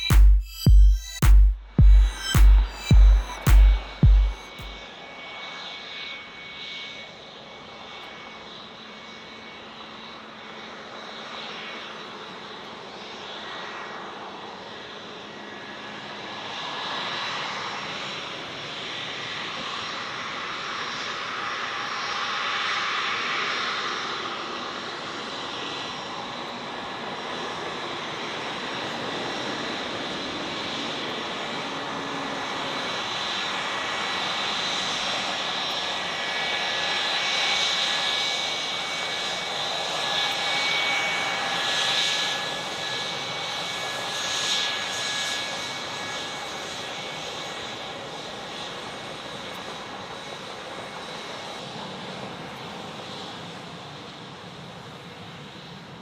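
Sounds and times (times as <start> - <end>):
jet engines whining and roaring: 1.8 - 56.0.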